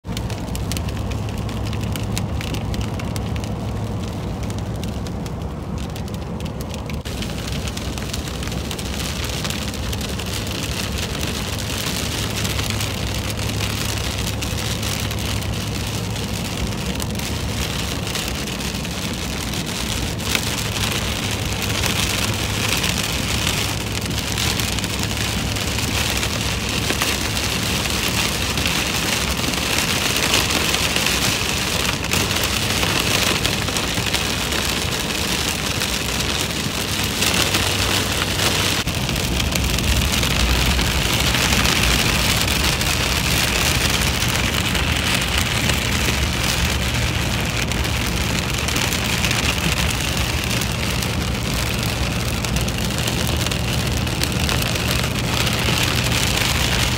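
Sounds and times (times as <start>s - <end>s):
engine and tyres droning: 0.0s - 56.9s
heavy rain on windshield and roof: 0.0s - 56.9s.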